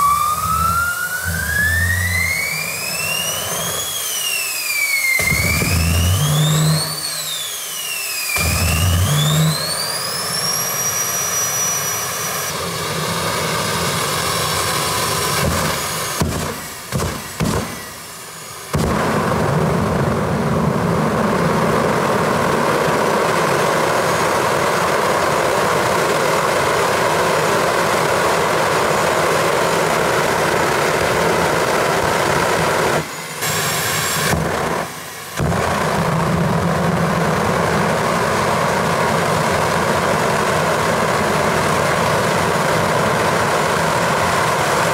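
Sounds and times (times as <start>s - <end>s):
high turbine whine: 0.0s - 44.9s
loud rushing jet exhaust: 0.0s - 44.9s.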